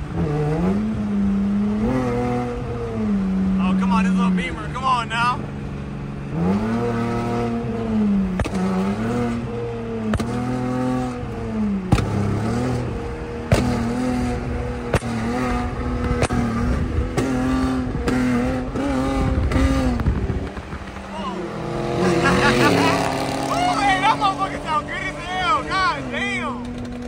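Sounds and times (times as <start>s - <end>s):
car engine and exhaust revving: 0.0s - 27.0s.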